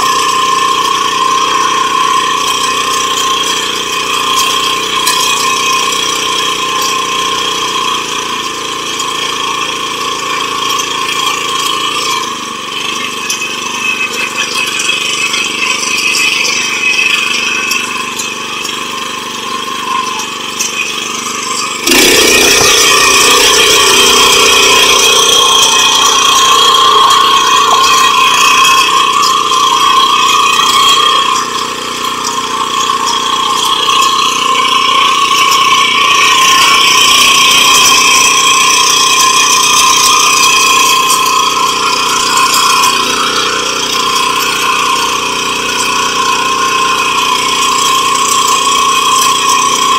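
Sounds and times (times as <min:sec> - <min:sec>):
tiller engine running: 0:00.0 - 0:49.9.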